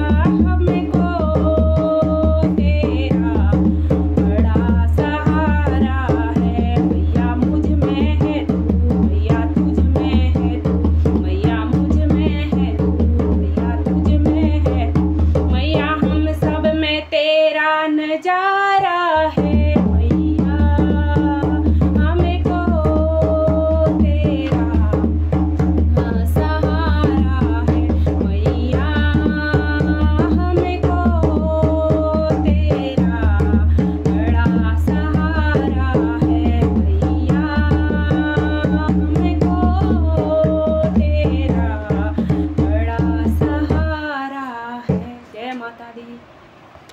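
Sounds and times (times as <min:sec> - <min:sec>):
fast hand drum rhythm: 0:00.0 - 0:17.0, 0:19.2 - 0:44.0
woman singing devotional song: 0:00.0 - 0:46.3.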